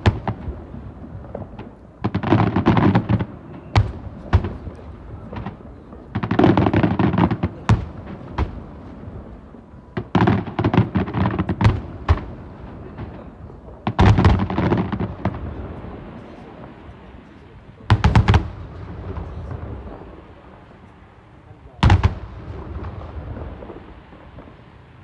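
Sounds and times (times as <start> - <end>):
fireworks crackling bangs: 0.0 - 25.0.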